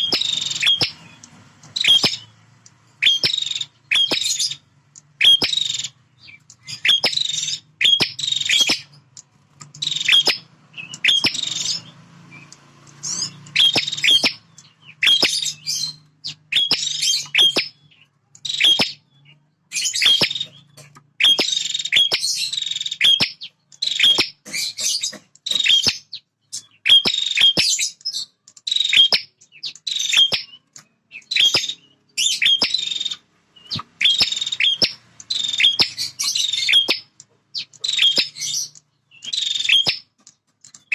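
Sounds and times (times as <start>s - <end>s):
bird singing sharp phrases: 0.0s - 40.9s.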